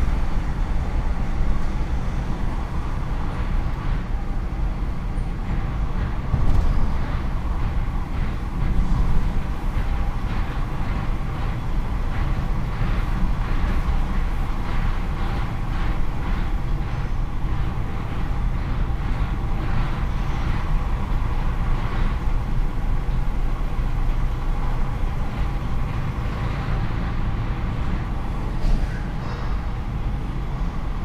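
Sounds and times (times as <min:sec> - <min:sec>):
truck engine rumble: 0:00.0 - 0:31.0.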